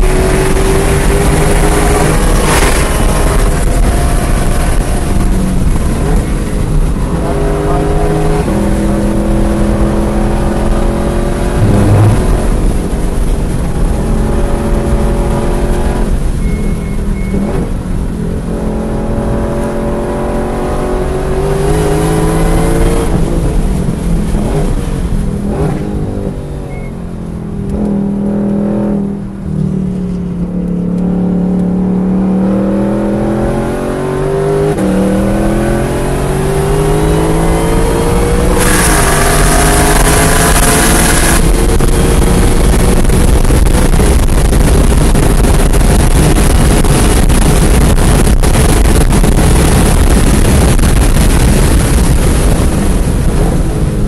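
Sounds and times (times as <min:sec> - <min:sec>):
car engine accelerating: 0:00.0 - 0:54.0
wind and tyre noise: 0:00.0 - 0:54.0.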